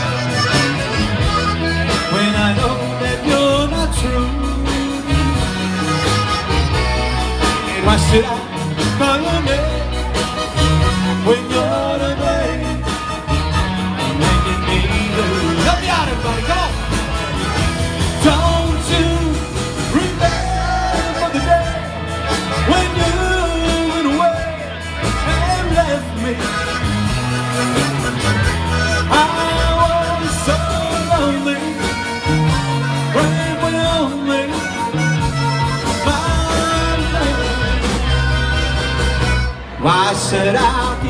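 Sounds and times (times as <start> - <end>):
live band playing instrumental: 0.0 - 41.0.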